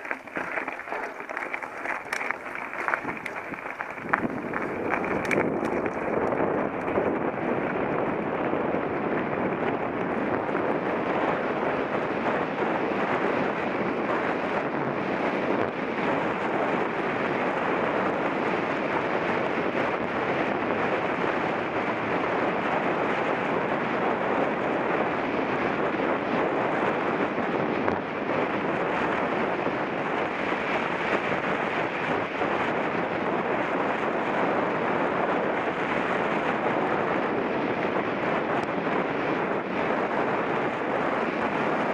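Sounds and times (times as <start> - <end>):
bike tyre noise: 0.0 - 21.3, 24.6 - 41.9
wind rushing on microphone: 0.0 - 41.9.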